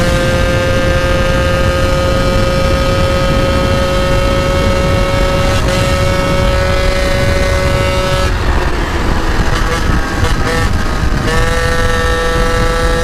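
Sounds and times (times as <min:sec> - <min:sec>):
moped engine at high revs: 0:00.0 - 0:13.0
wind rumble on microphone: 0:00.0 - 0:13.0.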